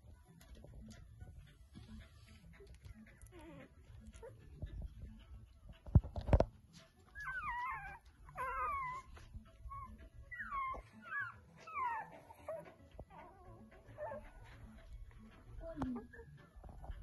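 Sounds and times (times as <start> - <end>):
puppy whimpering: 1.7 - 17.0.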